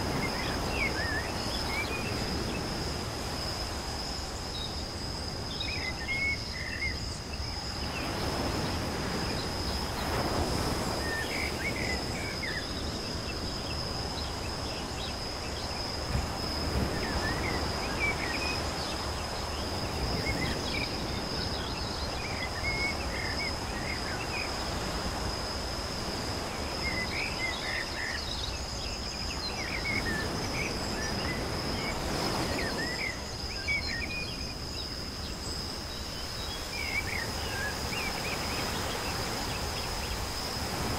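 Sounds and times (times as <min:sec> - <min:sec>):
background hiss: 0:00.0 - 0:40.9
high-pitched insect trill: 0:00.0 - 0:40.9.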